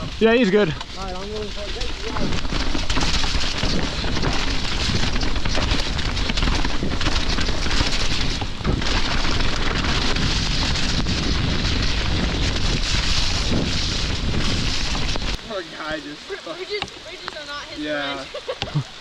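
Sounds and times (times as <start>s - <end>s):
low rumble: 0.0s - 16.3s
rain: 0.0s - 19.0s
wind buffeting microphone: 0.0s - 19.0s.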